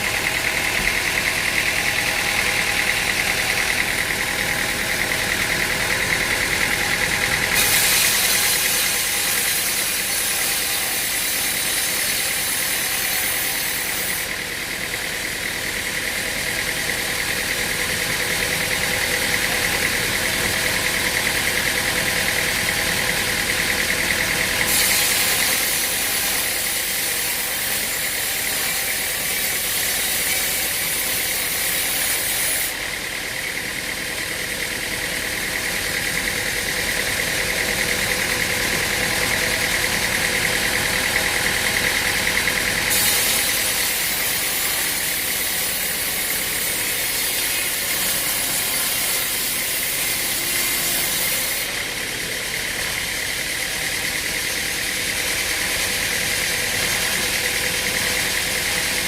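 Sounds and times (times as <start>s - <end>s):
engine-driven machinery running: 0.0s - 59.0s.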